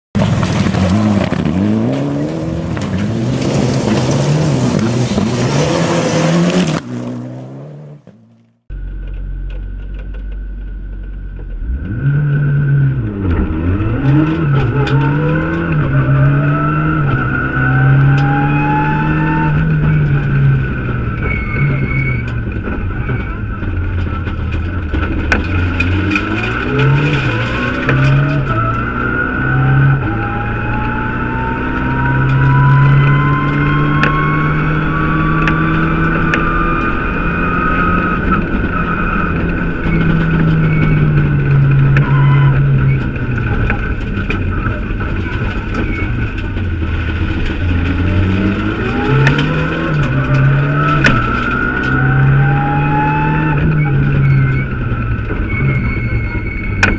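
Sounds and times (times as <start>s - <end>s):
rally car engine revving: 0.2s - 56.9s.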